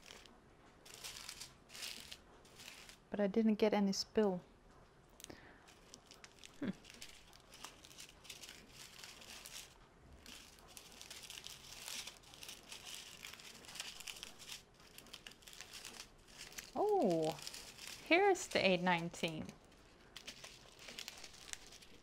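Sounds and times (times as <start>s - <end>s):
plastic bags crinkling: 0.0s - 3.1s, 5.2s - 22.0s.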